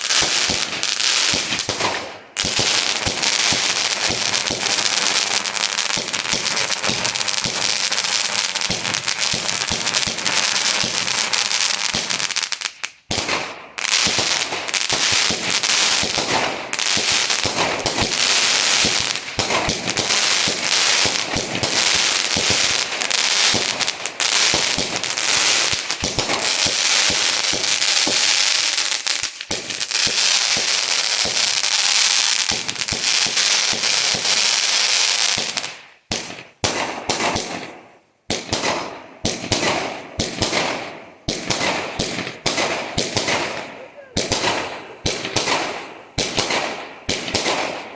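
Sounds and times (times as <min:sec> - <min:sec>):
firework bangs and crackling: 0:00.0 - 0:47.9.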